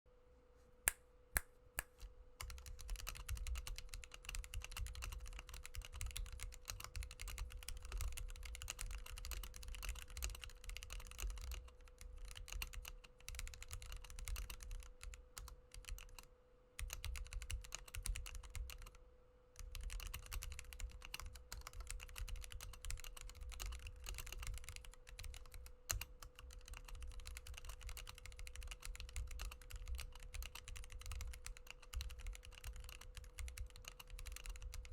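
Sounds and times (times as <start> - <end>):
faint steady hum: 0.1 - 34.9
mechanical keyboard typing: 1.9 - 19.0, 19.6 - 34.9.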